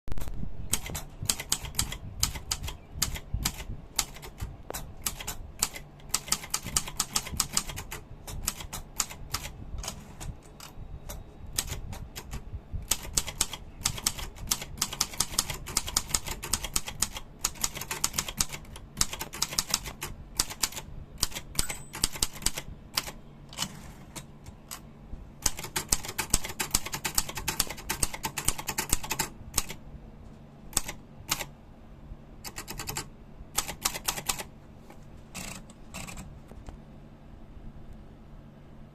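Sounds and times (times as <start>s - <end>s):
typewriter typing: 0.1s - 10.7s, 11.6s - 24.8s, 25.4s - 29.8s, 30.8s - 31.5s, 32.4s - 34.5s, 35.3s - 36.3s.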